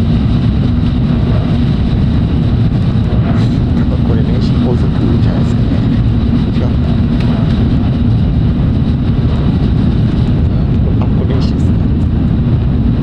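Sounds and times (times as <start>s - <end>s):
train rumbling from inside carriage: 0.0s - 13.0s.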